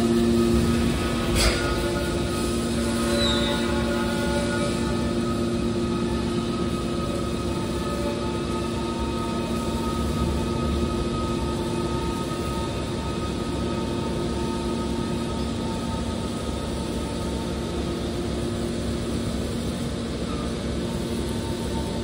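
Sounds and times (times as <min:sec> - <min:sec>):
hydraulic machine humming and whining: 0:00.0 - 0:22.0.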